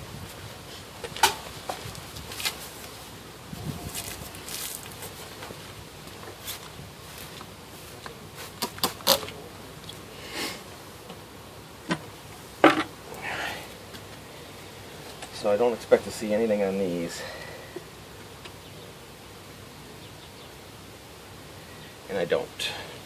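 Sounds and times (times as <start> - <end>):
honeybees buzzing: 0.0 - 23.0
rustle: 0.0 - 23.0.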